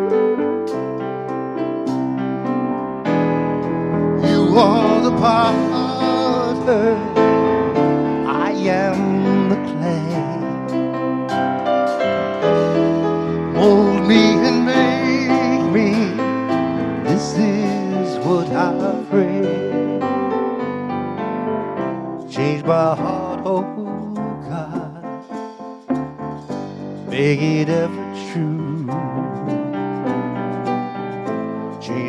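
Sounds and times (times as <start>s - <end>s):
electric keyboard held chords: 0.0s - 32.0s.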